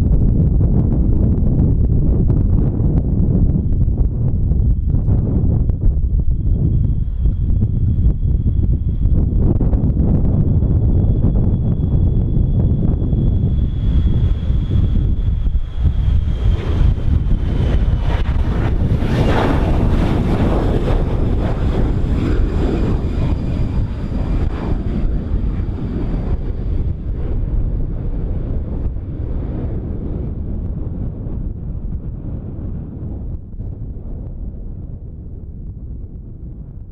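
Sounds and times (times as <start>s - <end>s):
jet engines rumbling and whining: 0.0s - 36.9s
wind buffeting microphone: 0.0s - 36.9s.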